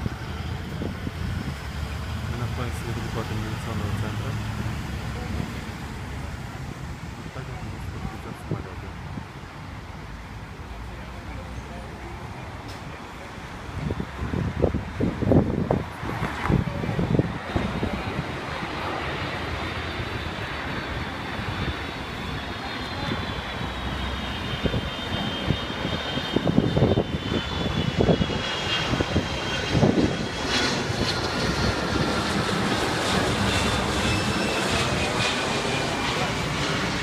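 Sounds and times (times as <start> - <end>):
airplane passing overhead: 0.0 - 37.0.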